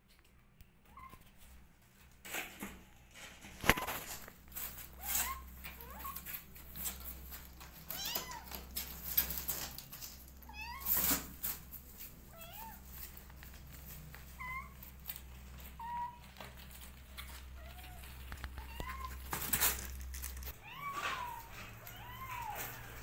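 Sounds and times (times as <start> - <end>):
rustling: 0.0 - 23.0.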